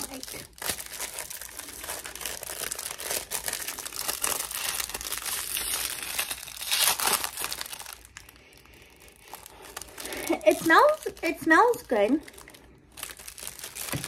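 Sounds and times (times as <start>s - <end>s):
foil pouch crinkling: 0.0s - 14.0s.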